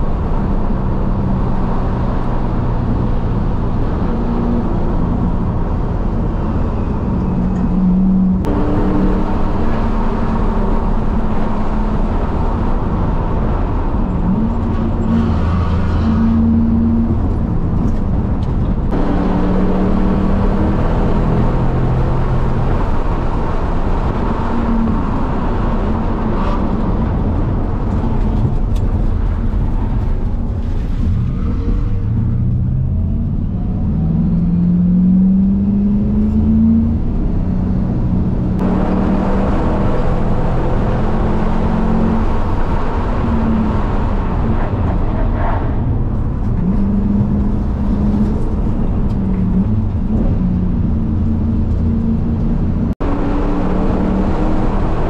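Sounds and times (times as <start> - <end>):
car engine revving: 0.0 - 55.0
wind and road noise: 0.0 - 55.0.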